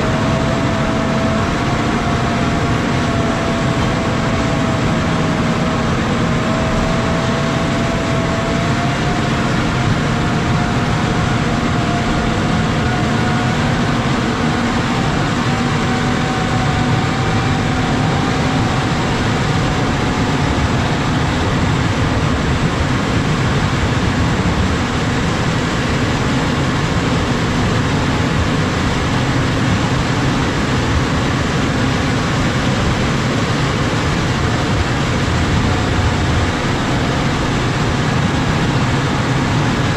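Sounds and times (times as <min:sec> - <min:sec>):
faint whine: 0:00.0 - 0:39.9
snow plow rushing noise: 0:00.0 - 0:39.9
tractor diesel engine under load: 0:00.0 - 0:39.9.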